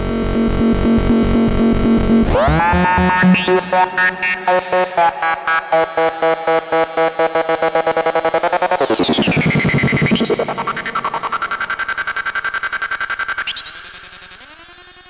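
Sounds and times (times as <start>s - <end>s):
buzzy pulsing synthesizer tone: 0.0s - 15.0s.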